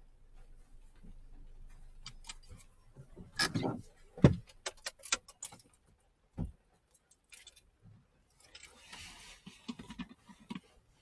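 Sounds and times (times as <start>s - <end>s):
handling clicks and rustles: 0.4s - 11.0s.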